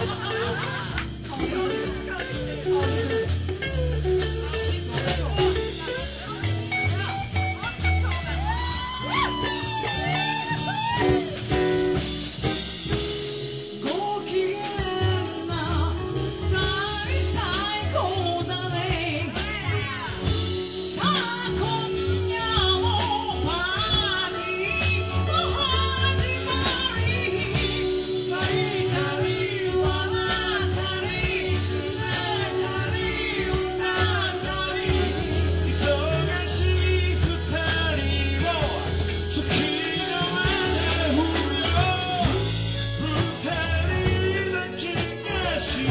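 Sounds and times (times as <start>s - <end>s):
soul band playing: 0.0s - 45.9s
person singing: 7.4s - 12.1s, 13.8s - 45.9s.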